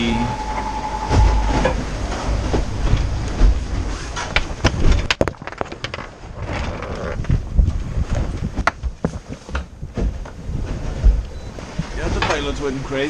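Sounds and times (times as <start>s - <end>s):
wind rumble on microphone: 0.0s - 13.0s
sharp knocks and clatter on sailboat: 1.1s - 12.8s.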